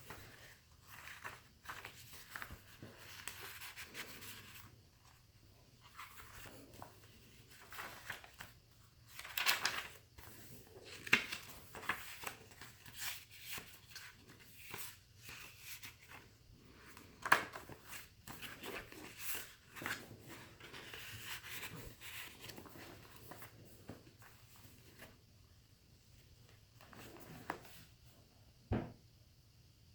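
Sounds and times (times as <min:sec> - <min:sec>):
paper pages rustling: 0:00.0 - 0:25.2, 0:26.7 - 0:27.9.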